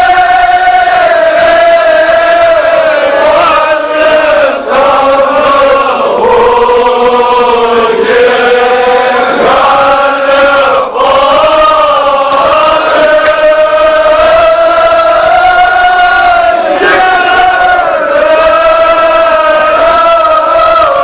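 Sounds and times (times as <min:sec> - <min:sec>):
men chanting: 0:00.0 - 0:21.0.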